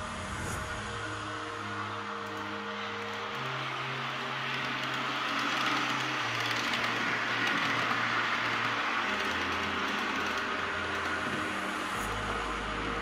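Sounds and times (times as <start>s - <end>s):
model train wheels rushing on rails: 0.0s - 13.0s.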